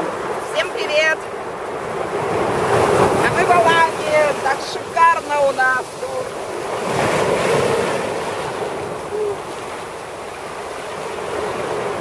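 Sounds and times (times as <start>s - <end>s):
waves washing on sandy shore: 0.0s - 12.0s.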